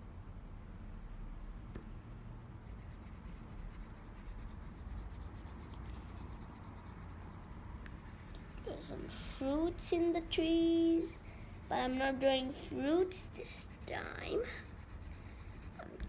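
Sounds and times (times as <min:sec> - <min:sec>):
pencil scratching on paper: 0:02.6 - 0:15.9.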